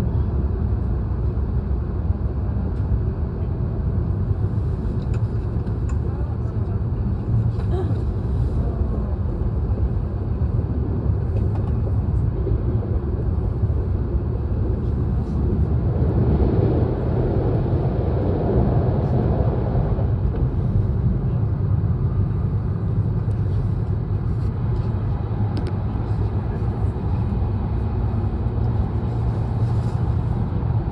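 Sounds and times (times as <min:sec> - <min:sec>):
train running low rumble: 0:00.0 - 0:30.9.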